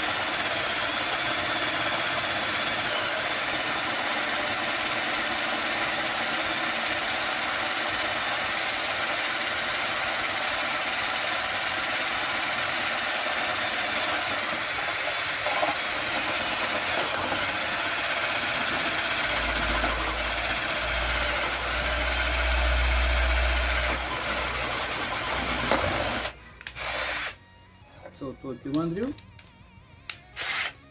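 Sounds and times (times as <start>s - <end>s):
cordless drill boring into wood: 0.0s - 27.4s, 30.4s - 30.9s.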